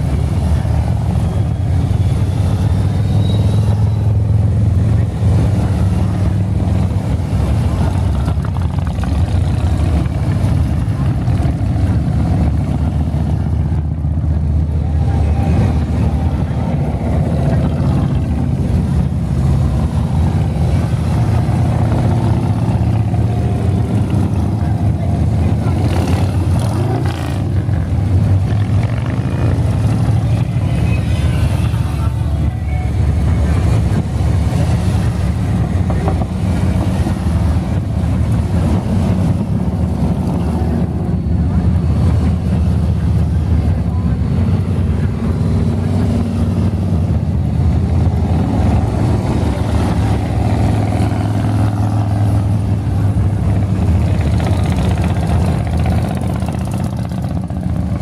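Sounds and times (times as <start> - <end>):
motorcycles rumbling past: 0.0 - 58.0.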